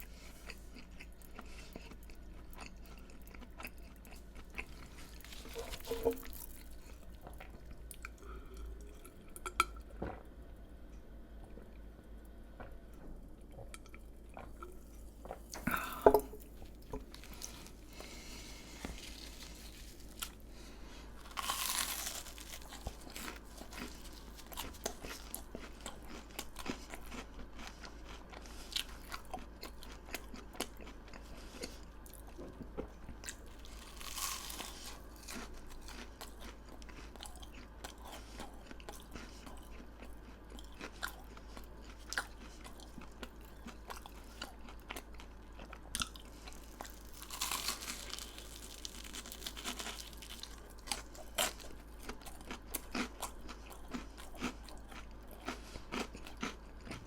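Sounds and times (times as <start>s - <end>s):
chewing crisp fried food: 0.0s - 10.2s, 13.4s - 57.0s.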